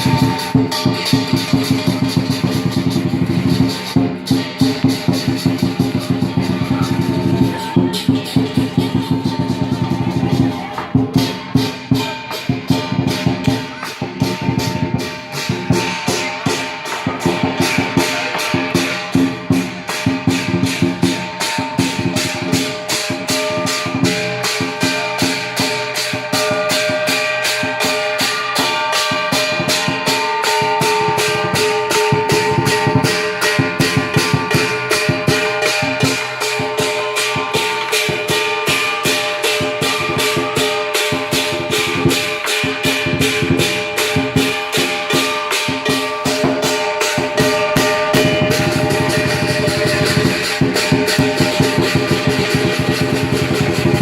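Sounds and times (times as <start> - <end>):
cymbals clashing: 0.0 - 54.0
drum beating: 0.0 - 54.0.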